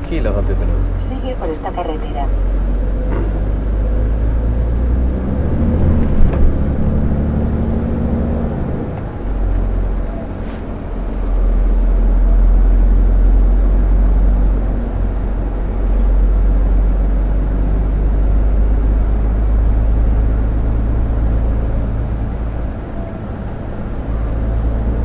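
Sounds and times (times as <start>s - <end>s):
lorry engine and road noise: 0.0s - 25.0s.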